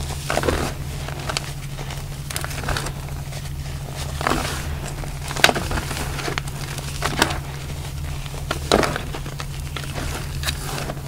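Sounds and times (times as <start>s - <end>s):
chalk crunching in hands: 0.0s - 11.0s
steady low hum: 0.0s - 11.0s.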